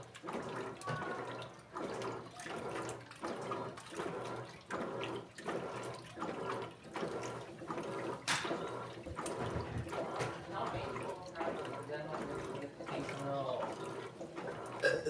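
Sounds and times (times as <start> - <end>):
water and clothes sloshing: 0.0 - 15.0.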